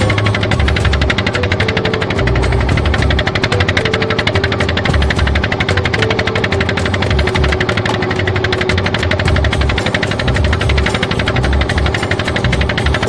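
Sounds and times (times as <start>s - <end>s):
boat engine knocking: 0.0s - 13.0s.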